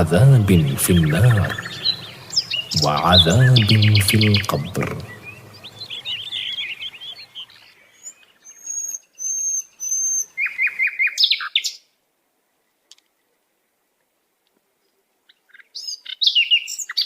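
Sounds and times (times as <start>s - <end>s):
songbirds singing: 0.0s - 11.9s, 14.8s - 17.0s.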